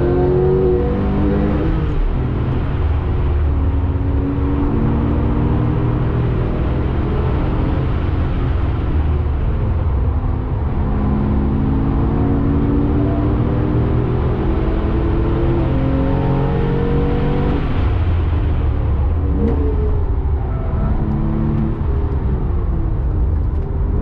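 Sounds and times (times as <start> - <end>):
tyre and road noise: 0.0 - 24.0.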